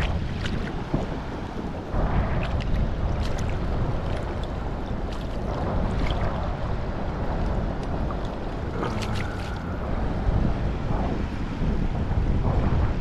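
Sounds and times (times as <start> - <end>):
river water flowing: 0.0 - 11.5
wind rumbling on microphone: 0.0 - 13.0.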